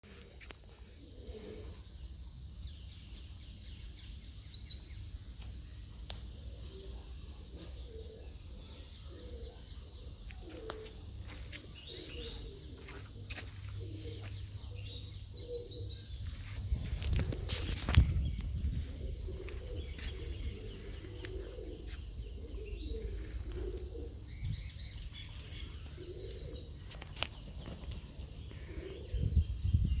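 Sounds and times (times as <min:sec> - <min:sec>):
crickets droning: 0:00.0 - 0:30.0.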